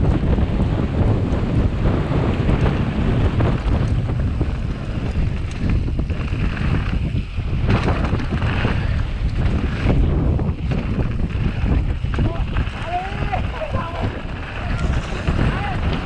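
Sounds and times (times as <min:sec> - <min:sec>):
bike tyres rumbling and rattling: 0:00.0 - 0:16.0
wind buffeting microphone: 0:00.0 - 0:16.0.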